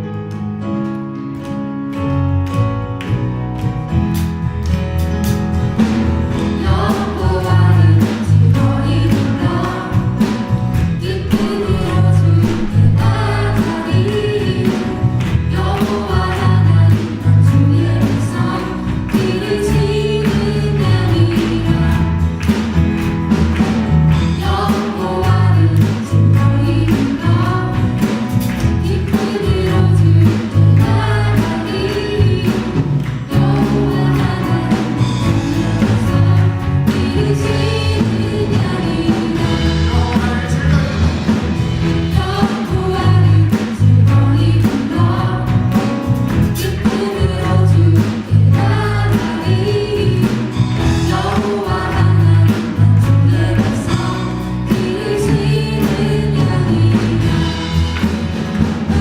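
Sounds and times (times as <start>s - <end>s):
live band with steady beat: 0.0s - 59.0s
group singing worship song: 5.7s - 59.0s.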